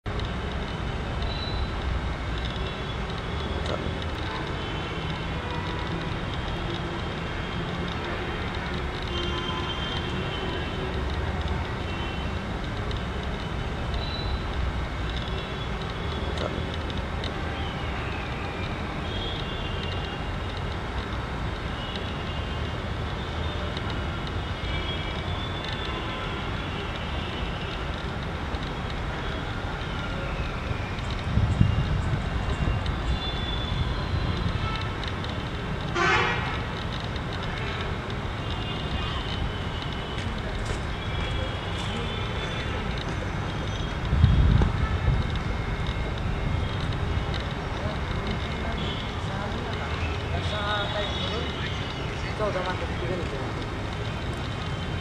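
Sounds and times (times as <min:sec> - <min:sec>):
low rumble like distant traffic: 0:00.1 - 0:55.0.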